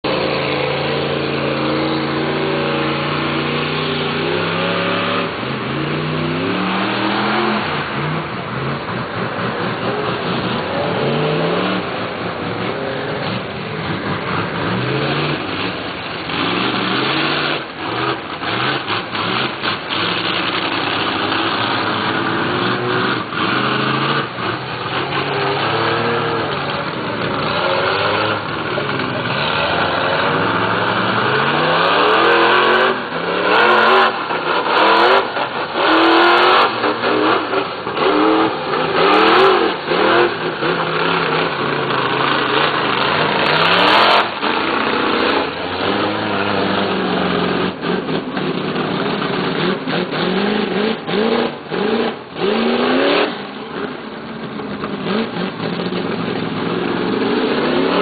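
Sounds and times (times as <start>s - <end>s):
truck engines revving: 0.0s - 58.0s.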